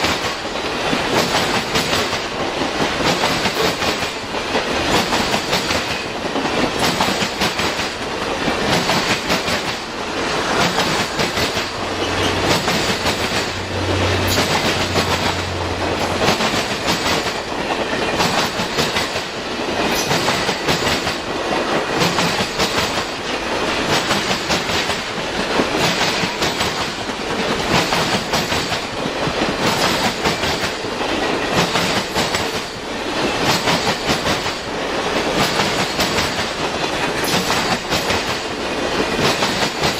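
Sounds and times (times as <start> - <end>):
train rumble: 0.0 - 39.9
train wheels clicking over rail joints: 0.0 - 39.9.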